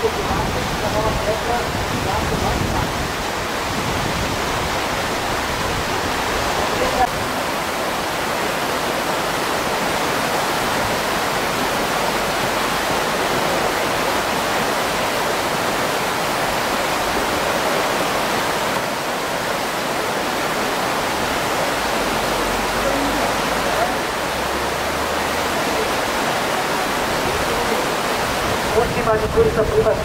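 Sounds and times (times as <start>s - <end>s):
whitewater rapids rushing: 0.0s - 30.0s.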